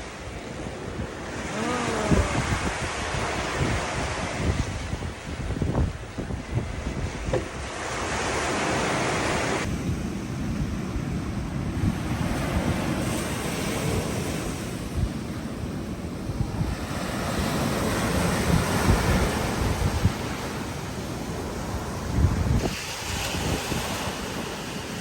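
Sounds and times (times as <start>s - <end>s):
waves washing on shore: 0.0s - 25.0s
wind buffeting microphone: 0.0s - 25.0s.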